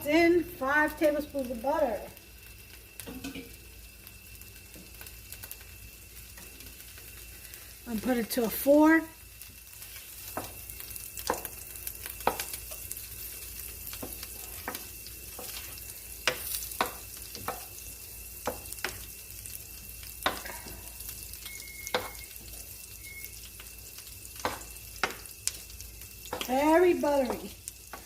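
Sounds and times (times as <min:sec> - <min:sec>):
butter sizzling in a frying pan: 0:00.0 - 0:28.0.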